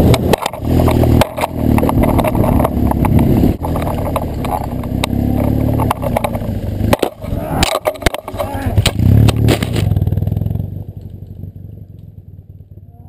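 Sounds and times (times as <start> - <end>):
motorcycle knocks and rattles: 0.0 - 12.8
motorcycle engine under throttle: 0.0 - 13.0.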